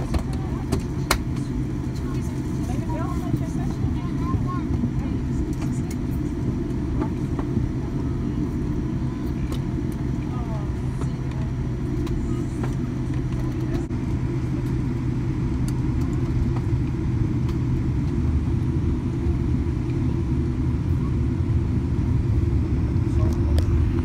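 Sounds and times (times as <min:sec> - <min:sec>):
low rumble of aircraft cabin: 0:00.0 - 0:24.0.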